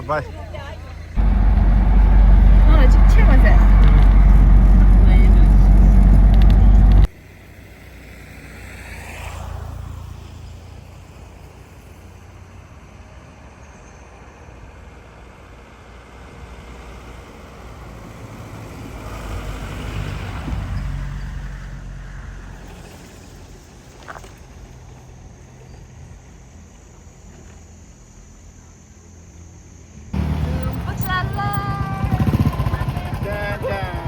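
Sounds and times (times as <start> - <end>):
vehicles passing on road: 0.0 - 34.0.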